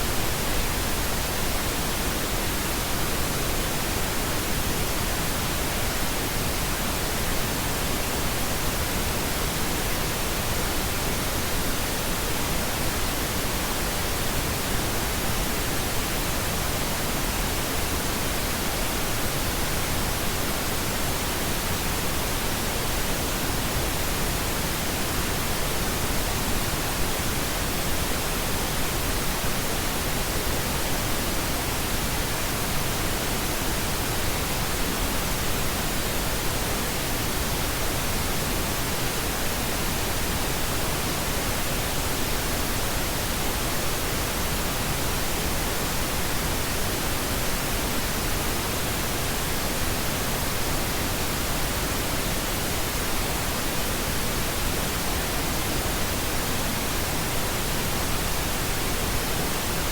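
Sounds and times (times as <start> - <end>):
steady pink noise hiss: 0.0 - 59.9.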